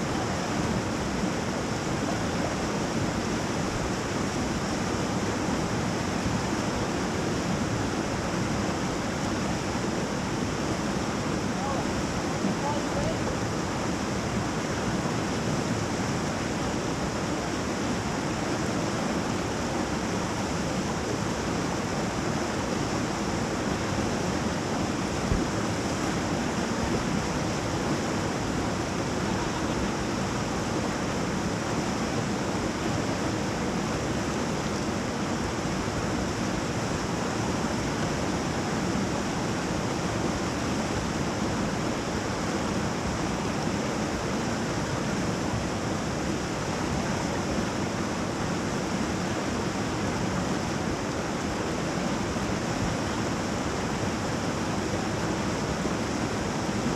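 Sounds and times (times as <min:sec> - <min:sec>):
whitewater rapids rushing: 0:00.0 - 0:56.9.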